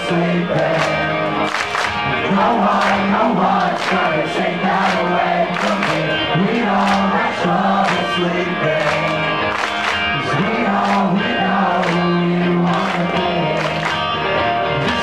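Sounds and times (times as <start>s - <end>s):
man singing: 0.0s - 1.4s, 2.0s - 9.5s, 10.1s - 15.0s
live rock band playing: 0.0s - 15.0s.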